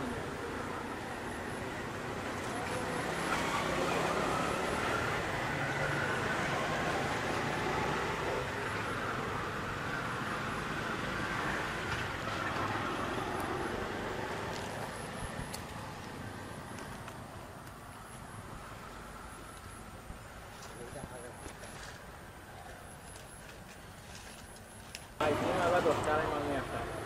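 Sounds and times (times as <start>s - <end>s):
distant traffic hum: 0.0s - 27.0s.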